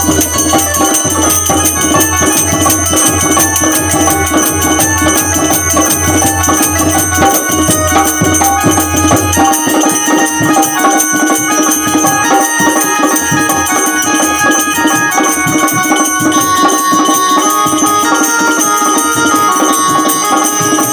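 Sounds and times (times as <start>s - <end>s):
hand-drum beats: 0.0s - 20.9s
jingling percussion: 0.0s - 20.9s
sustained melody notes: 0.0s - 20.9s.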